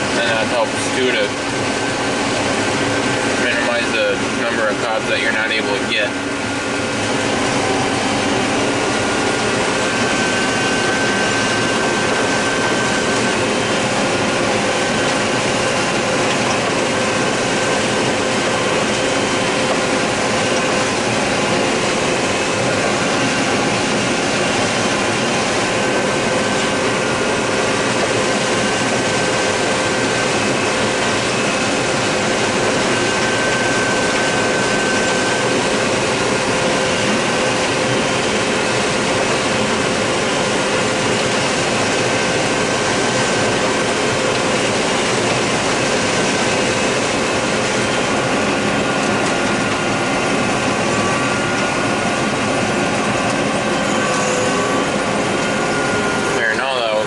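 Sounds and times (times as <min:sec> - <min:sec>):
combine harvester running: 0:00.0 - 0:57.0
machinery whining tones: 0:00.0 - 0:57.0.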